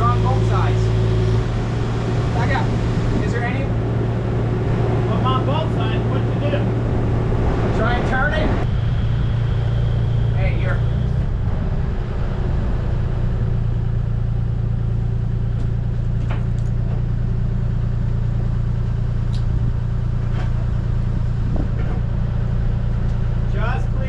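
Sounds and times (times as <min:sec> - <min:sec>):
heavy machine engine drone: 0:00.0 - 0:24.0.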